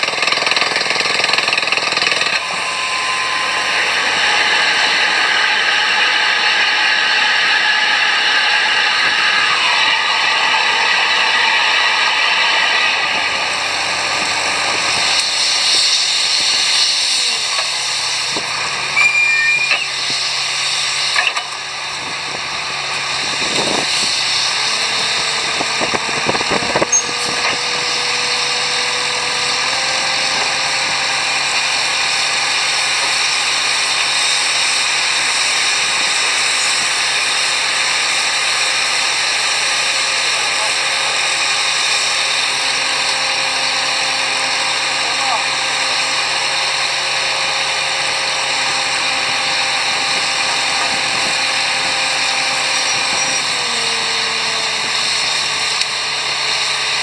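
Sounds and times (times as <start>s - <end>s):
drilling rig running: 0.0s - 57.0s.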